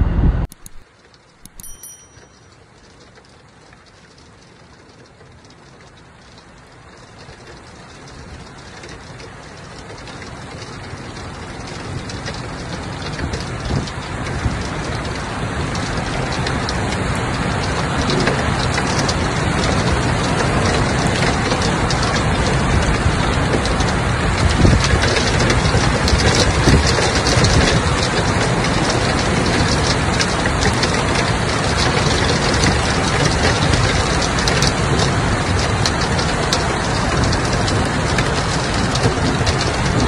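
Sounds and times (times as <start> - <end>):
heavy rain: 2.6 - 40.0.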